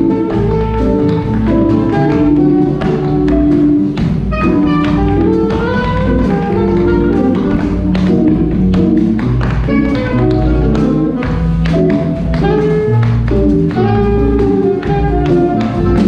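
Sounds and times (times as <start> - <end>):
guitar: 0.0 - 16.0
live jazz band playing: 0.0 - 16.0
saxophone: 0.0 - 16.0
tap shoes clicking on wooden floor: 0.0 - 16.0.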